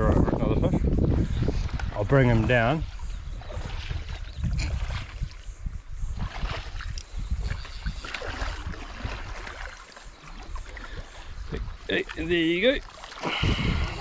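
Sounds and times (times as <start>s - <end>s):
wind rumble on microphone: 0.0s - 14.0s
water gurgling: 1.0s - 14.0s
fish splashing in shallow water: 1.2s - 14.0s.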